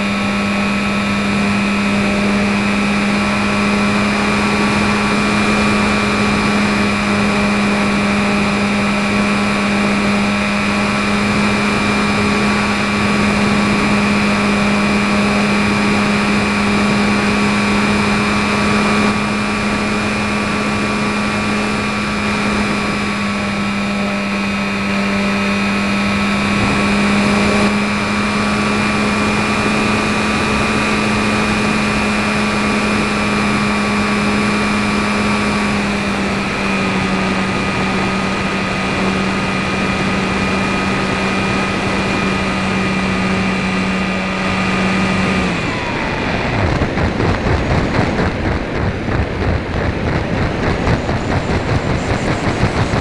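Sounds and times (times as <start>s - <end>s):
electric motor humming: 0.0s - 53.0s.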